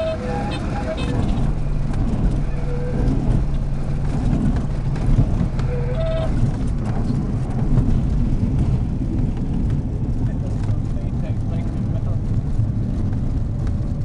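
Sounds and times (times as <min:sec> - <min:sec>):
landing gear rumbling: 0:00.0 - 0:14.0
piston aircraft engine running: 0:00.0 - 0:14.0.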